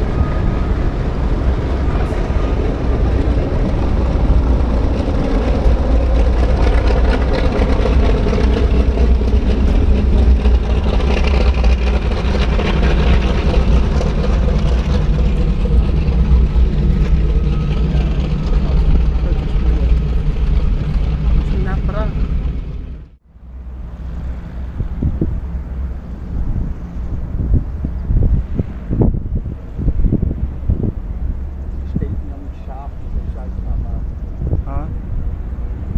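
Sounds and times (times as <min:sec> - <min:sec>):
propeller aircraft engines droning: 0:00.0 - 0:35.9.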